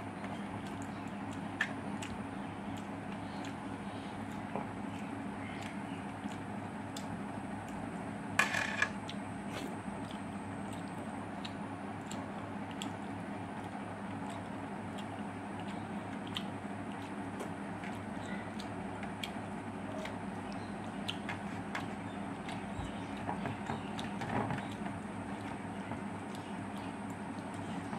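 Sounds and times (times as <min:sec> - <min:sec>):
steady low hum: 0:00.0 - 0:27.9
chewing: 0:00.4 - 0:07.8, 0:09.0 - 0:27.9
fingers squishing food: 0:04.2 - 0:07.9, 0:09.0 - 0:27.9.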